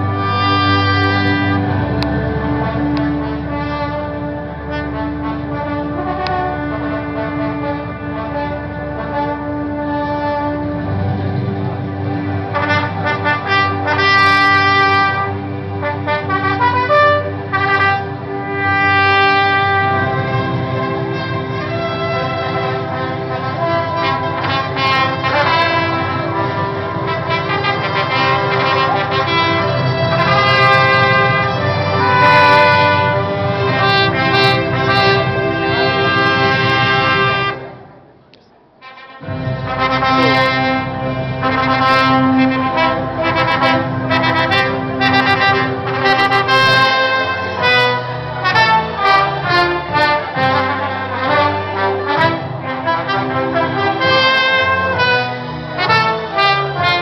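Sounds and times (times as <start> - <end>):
trumpet holding a note: 0.0 - 11.0, 12.5 - 37.8, 38.8 - 57.0
ensemble sustained chords: 0.0 - 38.5, 39.2 - 56.8
strings: 0.0 - 57.0.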